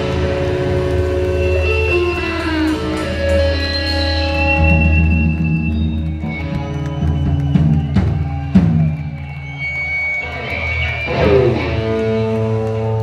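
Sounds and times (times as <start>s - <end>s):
ringing guitar chords: 0.0s - 7.9s, 8.9s - 13.0s
live rock band playing: 0.0s - 13.0s.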